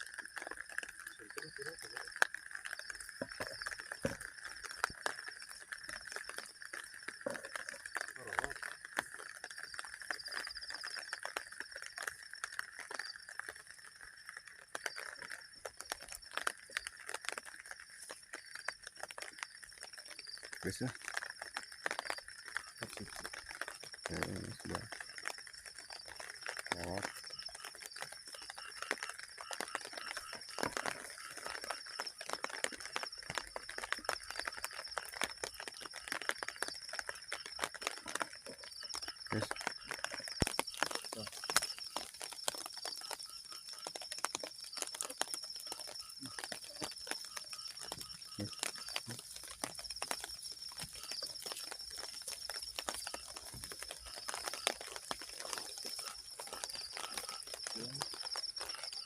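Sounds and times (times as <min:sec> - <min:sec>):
insects calling: 0:00.0 - 0:59.0
water dripping onto a tarp: 0:00.0 - 0:59.0.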